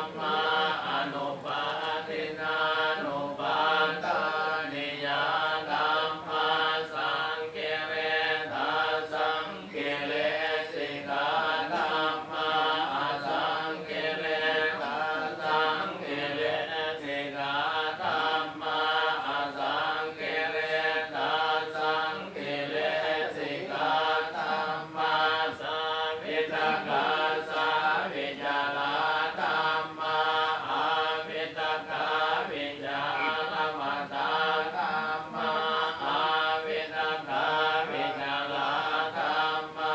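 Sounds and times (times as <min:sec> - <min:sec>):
voices chanting together: 0:00.0 - 0:39.9.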